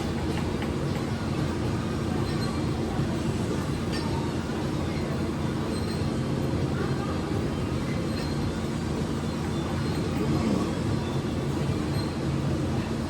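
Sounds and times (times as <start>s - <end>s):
constant hum: 0.0s - 13.0s
gym background rumble: 0.0s - 13.0s.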